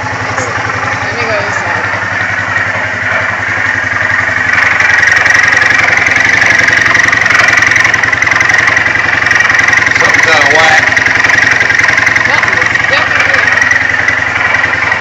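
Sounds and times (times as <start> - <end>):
engine idling with knocking rattle: 0.0 - 15.0.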